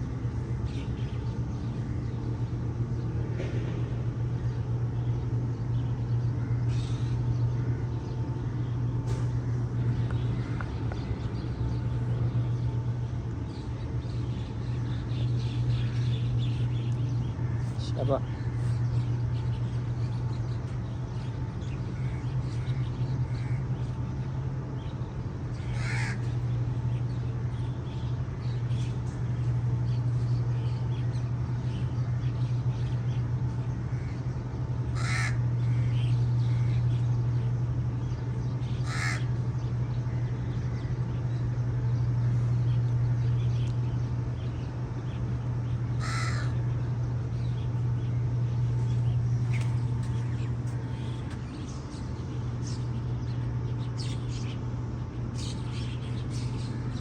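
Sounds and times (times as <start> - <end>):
steady low hum: 0.0 - 57.0
bird harsh calls: 4.0 - 57.0.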